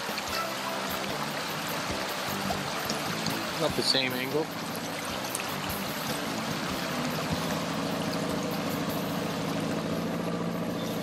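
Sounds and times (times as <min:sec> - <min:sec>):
plane engine running: 0:00.3 - 0:11.0.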